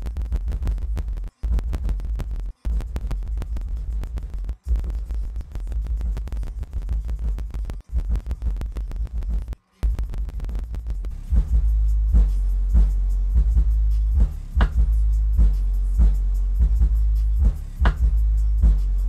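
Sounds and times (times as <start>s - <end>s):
stuttering deep bass music: 0.0s - 19.0s.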